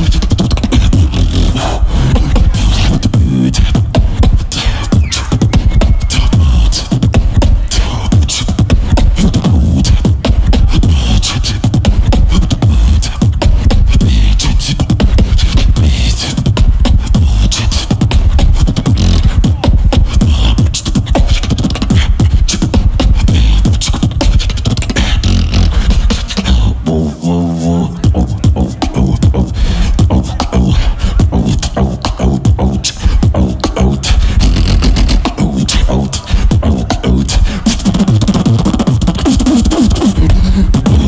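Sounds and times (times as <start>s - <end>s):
beatboxing into microphone: 0.0s - 41.0s.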